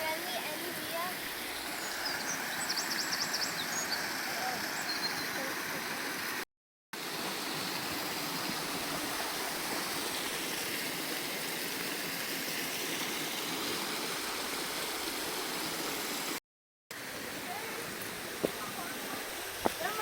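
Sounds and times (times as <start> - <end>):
stream water rushing: 0.0 - 6.4, 7.0 - 20.0.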